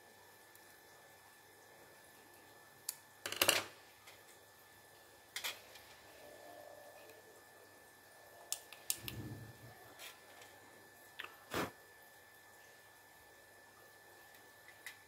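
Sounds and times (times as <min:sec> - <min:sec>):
faint steady high whine: 0:00.0 - 0:15.0.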